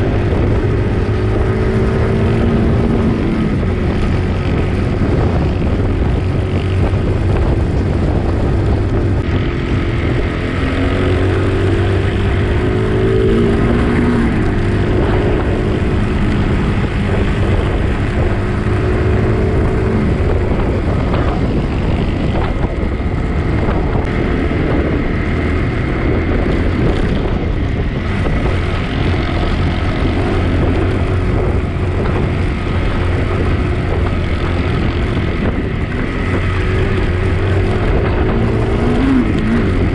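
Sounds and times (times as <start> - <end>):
low rumble: 0.0 - 39.9
motorcycle engine revving: 0.0 - 39.9.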